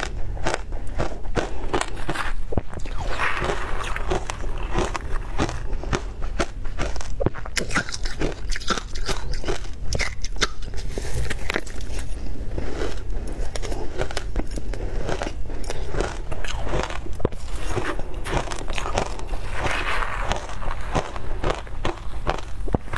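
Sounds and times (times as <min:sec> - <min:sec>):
crunching and chewing ice: 0:00.0 - 0:22.9.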